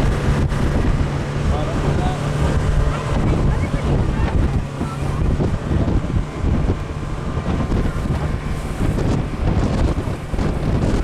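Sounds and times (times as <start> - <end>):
boat motor droning: 0.0 - 11.0
wind buffeting microphone: 0.0 - 11.0.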